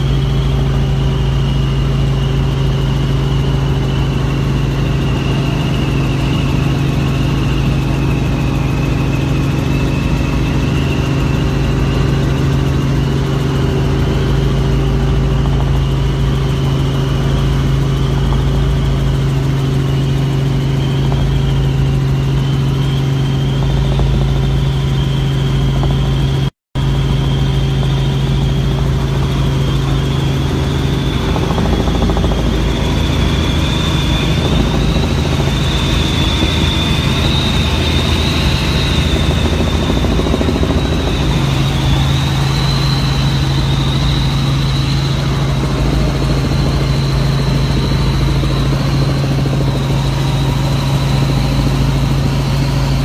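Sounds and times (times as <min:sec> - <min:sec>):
helicopter cabin drone: 0:00.0 - 0:53.0
high turbine whine: 0:00.0 - 0:53.0.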